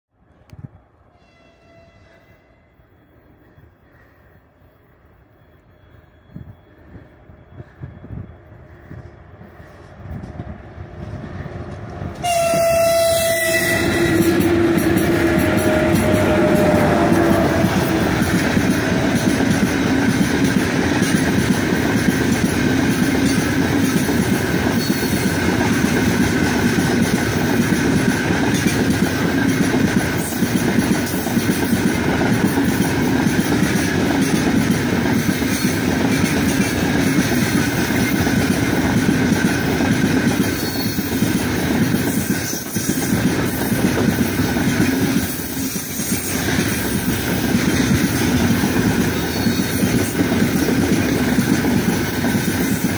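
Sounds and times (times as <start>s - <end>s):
freight train wheels clattering on rails: 6.2s - 52.9s.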